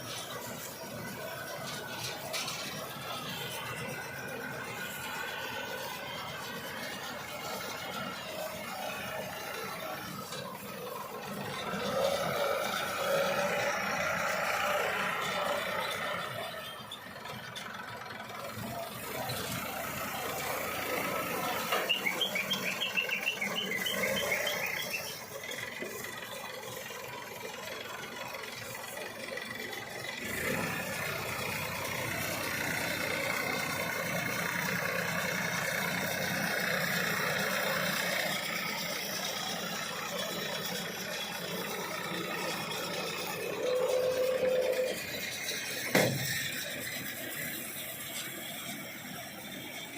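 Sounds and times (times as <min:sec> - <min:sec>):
baler and tractor clattering: 0:00.0 - 0:49.9.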